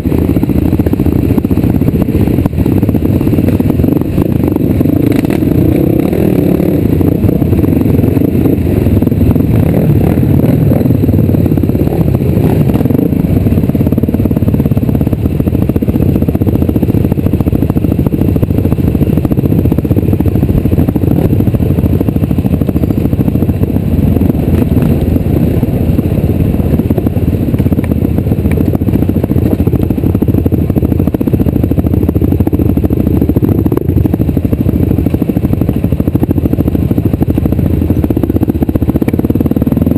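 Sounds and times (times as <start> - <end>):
vehicle rumbling on rough trail: 0.0 - 39.9.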